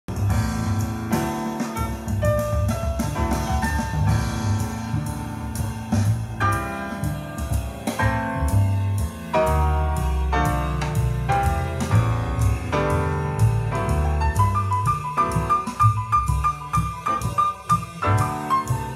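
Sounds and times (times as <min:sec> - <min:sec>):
music with piano bass and drums: 0:00.0 - 0:18.9.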